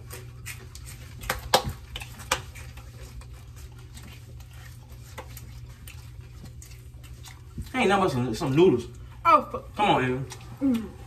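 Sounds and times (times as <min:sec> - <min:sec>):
crunching and chewing chips: 0:00.0 - 0:11.0.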